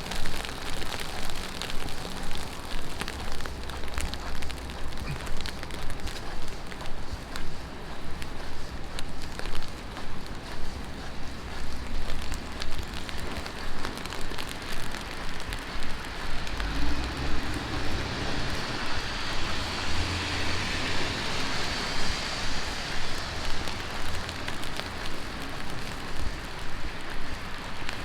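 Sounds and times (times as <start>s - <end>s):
heavy rain on street: 0.0s - 28.0s
tyres hissing on wet road: 0.0s - 28.0s
vehicle rumble: 0.0s - 28.0s.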